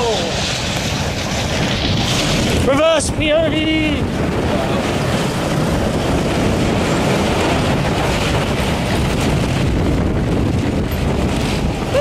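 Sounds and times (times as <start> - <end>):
roller coaster rumble and rattle: 0.0 - 12.0
wind buffeting microphone: 0.0 - 12.0.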